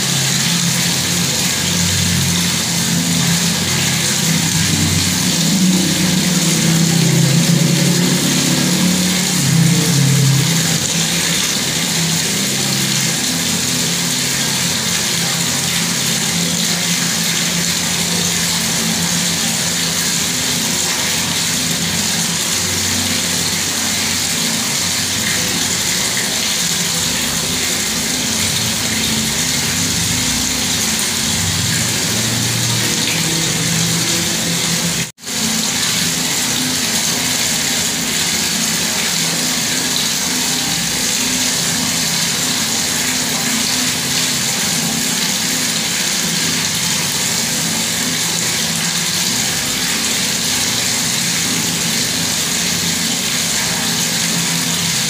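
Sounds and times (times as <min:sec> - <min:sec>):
tap water pouring and splashing: 0:00.0 - 0:55.0.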